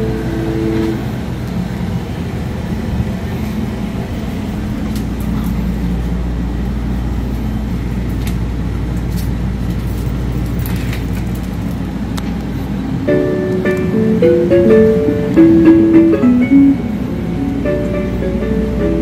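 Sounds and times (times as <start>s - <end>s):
low rumble of road vehicles: 0.0s - 19.0s.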